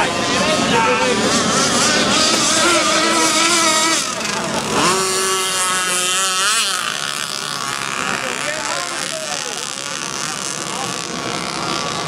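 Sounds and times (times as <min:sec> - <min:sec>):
model boat motor running hard: 0:00.0 - 0:12.0.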